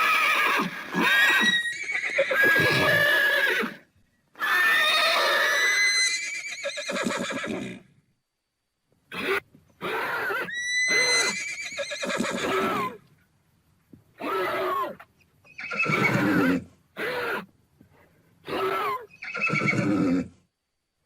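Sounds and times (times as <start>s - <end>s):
horse neighing: 0.0s - 7.9s, 9.1s - 13.0s, 14.2s - 17.5s, 18.4s - 20.4s.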